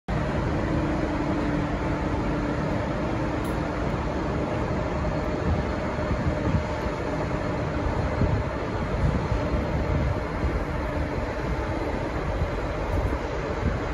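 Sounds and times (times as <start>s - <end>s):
diesel trains idling: 0.1s - 13.9s.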